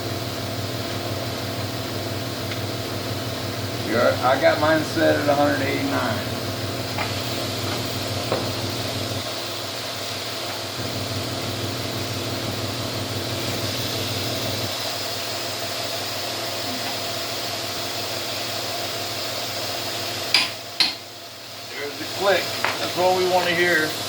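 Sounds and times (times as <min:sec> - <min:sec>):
steady mechanical hum: 0:00.0 - 0:24.0
hiss: 0:03.7 - 0:24.0.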